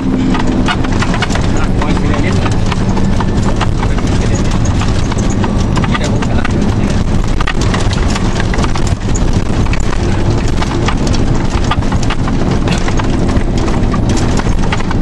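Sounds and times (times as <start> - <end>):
diesel engine and tyre noise: 0.0 - 15.0
rattling cab fittings: 0.0 - 15.0.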